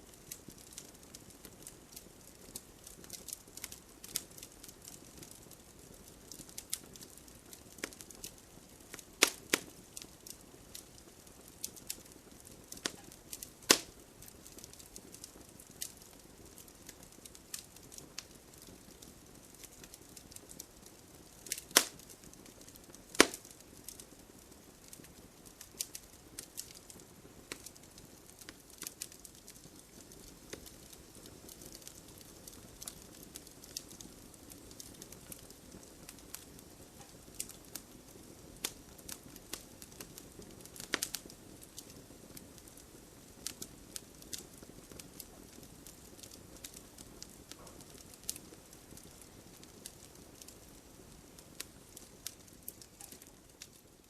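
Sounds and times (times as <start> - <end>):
campfire crackling and popping: 0.0 - 54.0
soft steady hiss: 0.0 - 54.0.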